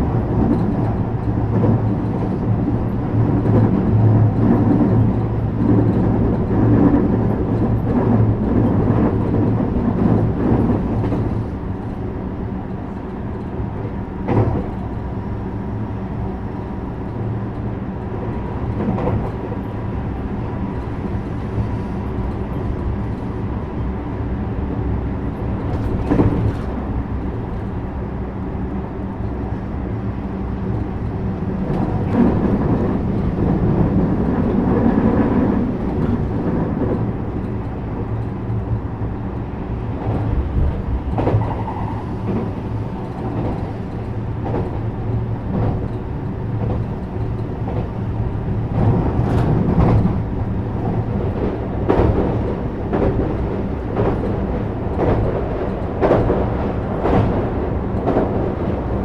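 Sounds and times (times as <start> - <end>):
train motor hum: 0.0 - 59.0
train wheels rumbling on rail: 0.0 - 59.0.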